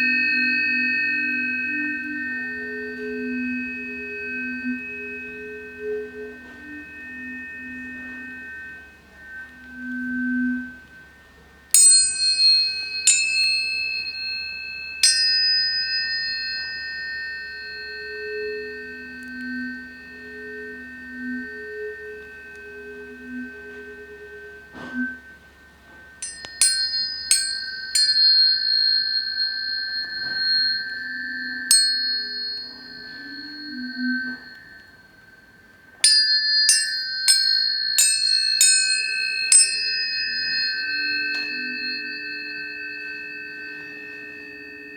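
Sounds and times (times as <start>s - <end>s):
tuning forks ringing: 0.0s - 44.9s.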